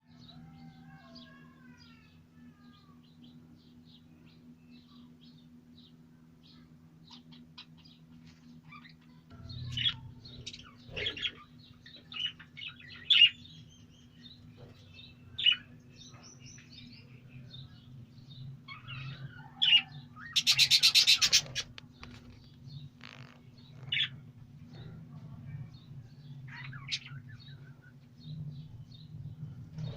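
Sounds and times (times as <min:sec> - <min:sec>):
birds chirping: 0:00.1 - 0:29.9.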